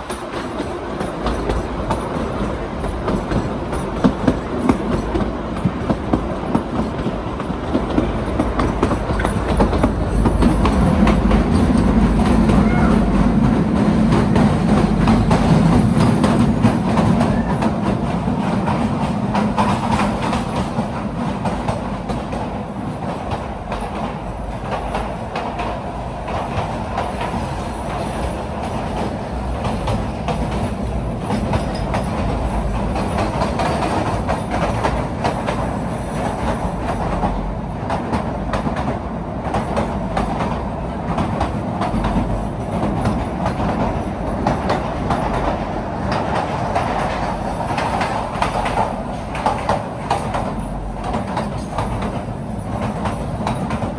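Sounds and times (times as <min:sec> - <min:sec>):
wheels clicking over rail joints: 0:00.0 - 0:22.5, 0:23.1 - 0:53.9
train rumbling: 0:00.0 - 0:53.9.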